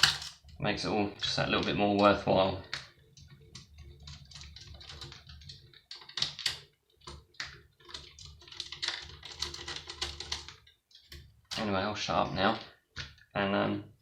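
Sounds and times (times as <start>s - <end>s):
small parts clicking and knocking: 0.0s - 11.7s.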